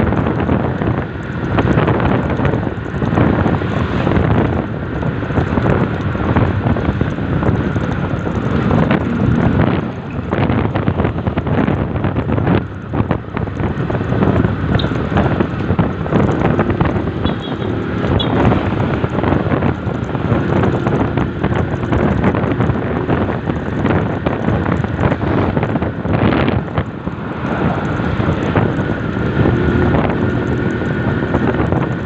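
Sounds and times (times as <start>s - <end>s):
engine and tyre rumble: 0.0s - 32.0s
wind buffeting microphone: 0.0s - 32.0s.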